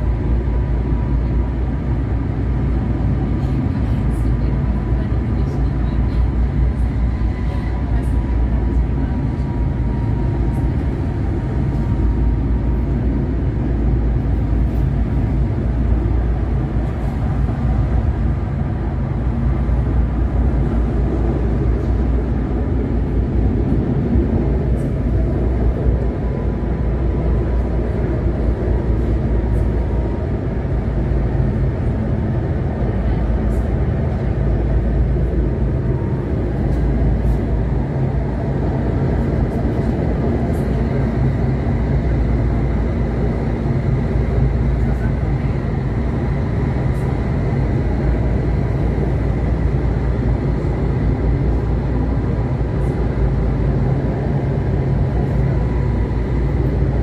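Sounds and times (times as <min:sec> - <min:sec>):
tram wheels rumbling on track: 0:00.0 - 0:57.0.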